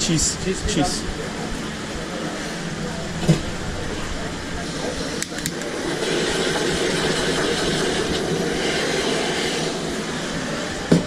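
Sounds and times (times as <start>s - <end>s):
running hum: 0.0s - 11.0s
sizzling at the grill: 0.0s - 11.0s.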